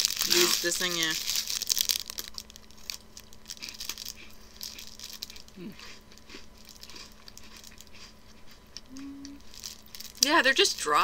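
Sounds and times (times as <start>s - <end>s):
crunchy cookies being chewed: 0.0s - 11.0s
light crinkles and crackles: 0.0s - 11.0s.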